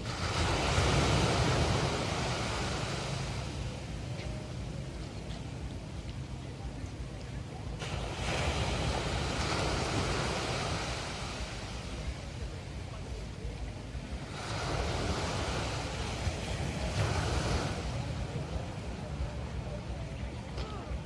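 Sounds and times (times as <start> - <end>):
ocean waves crashing on beach: 0.0 - 21.0.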